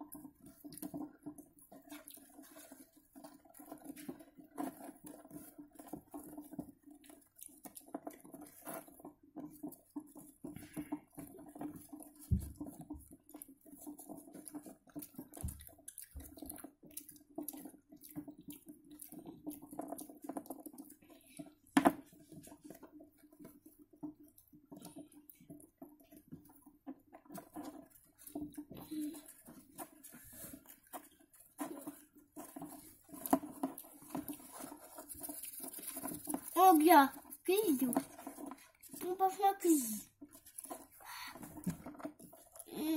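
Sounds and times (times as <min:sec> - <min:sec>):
hamsters gnawing and scrabbling: 0:00.0 - 0:42.9.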